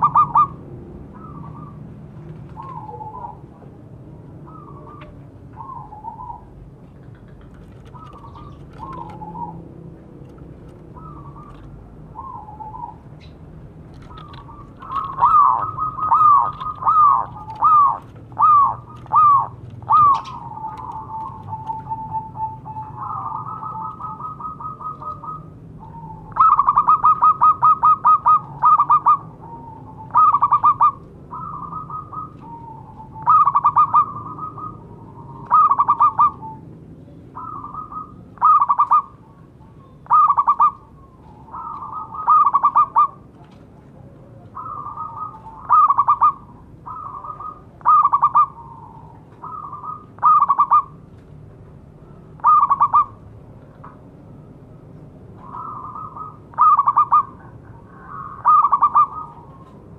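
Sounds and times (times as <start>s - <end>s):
dove cooing: 0.0s - 51.0s, 52.4s - 53.2s, 55.4s - 59.9s.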